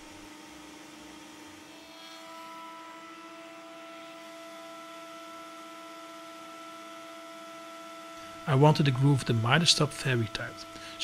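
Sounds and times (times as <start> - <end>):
faint steady hum of held tones: 0.0 - 11.0.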